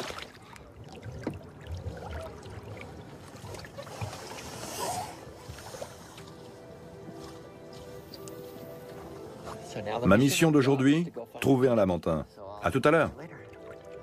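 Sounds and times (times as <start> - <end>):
water splashing and lapping: 0.0 - 10.9, 12.7 - 14.0.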